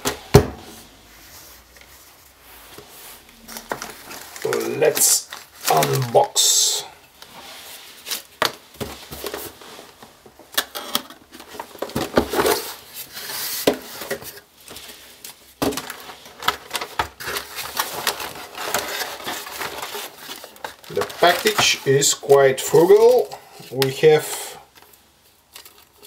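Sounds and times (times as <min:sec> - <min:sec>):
cardboard rustling: 0:00.0 - 0:26.0.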